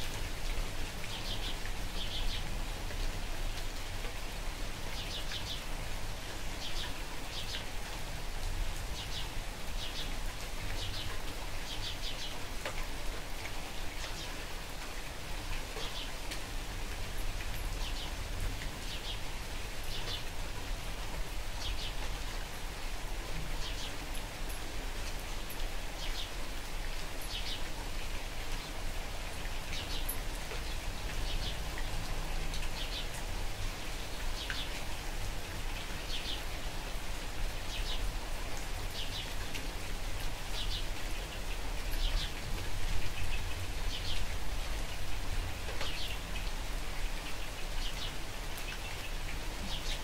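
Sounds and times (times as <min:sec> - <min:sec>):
light rain falling: 0:00.0 - 0:50.0.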